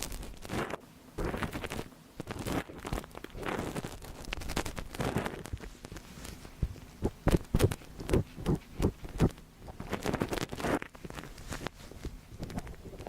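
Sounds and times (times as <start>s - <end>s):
scratchy rustling: 0.0s - 13.0s.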